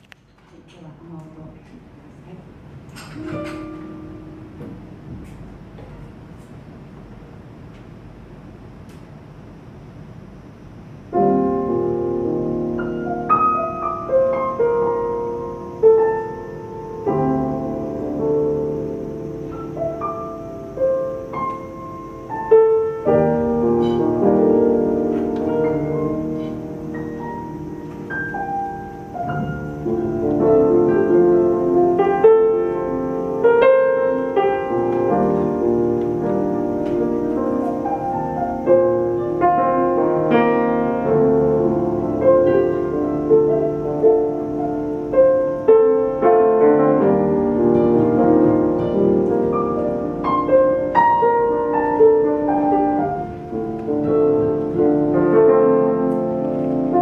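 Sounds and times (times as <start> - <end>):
grand piano: 0.0 - 57.0
classical guitar: 11.2 - 57.0.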